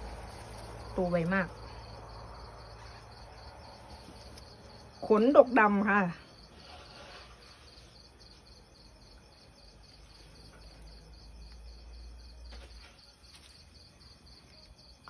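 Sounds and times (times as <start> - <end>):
faint cricket chirping: 0.0 - 15.0.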